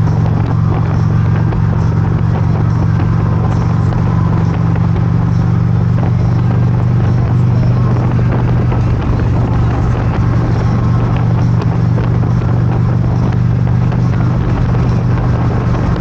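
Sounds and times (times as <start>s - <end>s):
motorcycle engine running: 0.0s - 16.0s
wind rushing: 0.0s - 16.0s.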